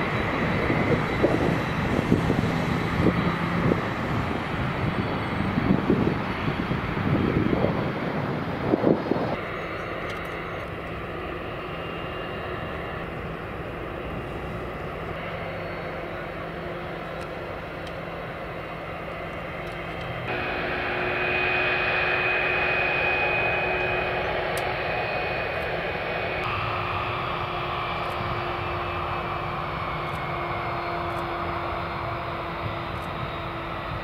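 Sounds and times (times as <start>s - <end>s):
jet engine high whine: 0.0s - 34.0s
jet engines rumbling: 0.0s - 34.0s.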